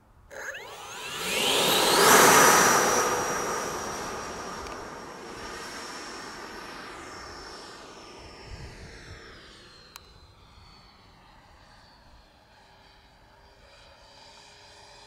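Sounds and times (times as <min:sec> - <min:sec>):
model jet fan whine: 0:00.3 - 0:15.0.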